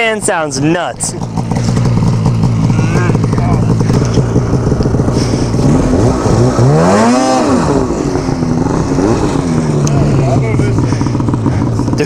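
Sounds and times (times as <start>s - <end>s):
snowmobile engine revving: 0.0s - 12.0s
track churning in deep snow: 0.5s - 12.0s.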